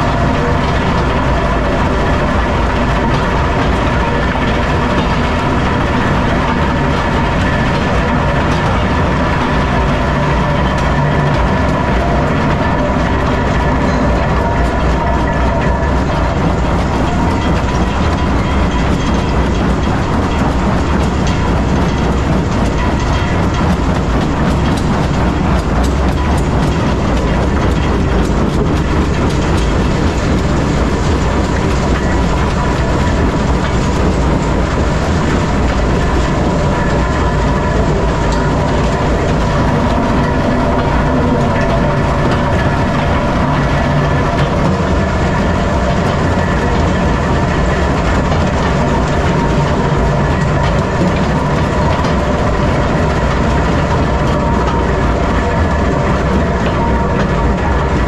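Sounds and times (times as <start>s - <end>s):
rock crusher rumbling: 0.0s - 58.0s.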